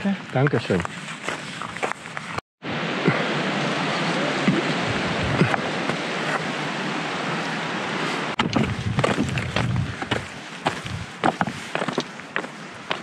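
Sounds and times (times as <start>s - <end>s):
steady rushing noise: 2.0s - 13.0s.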